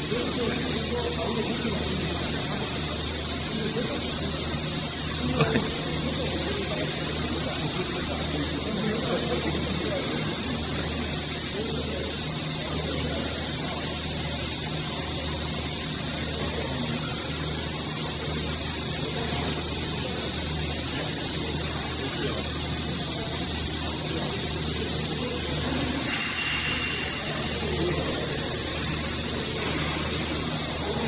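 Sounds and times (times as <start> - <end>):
loud machinery hiss: 0.0 - 31.0.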